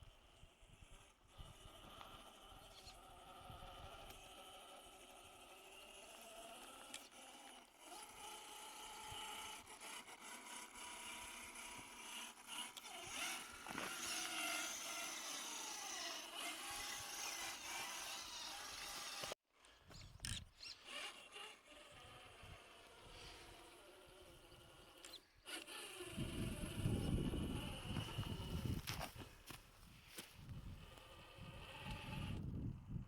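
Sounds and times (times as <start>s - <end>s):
electric motor and gearbox whining: 0.0s - 33.0s.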